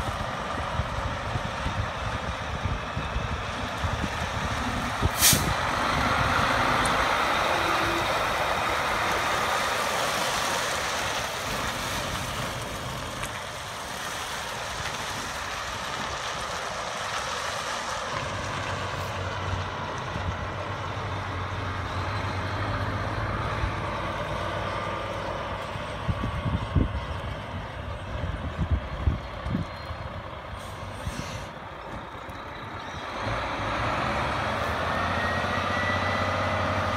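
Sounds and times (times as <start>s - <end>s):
road noise: 0.0s - 36.9s
truck engine running: 0.0s - 36.9s.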